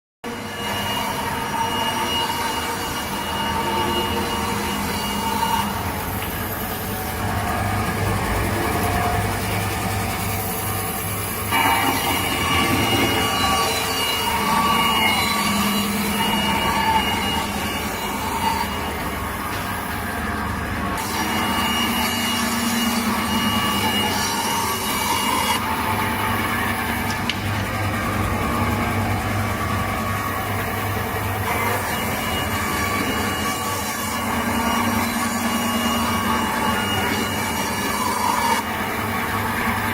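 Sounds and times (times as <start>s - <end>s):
band saw cutting wood: 0.3s - 39.9s.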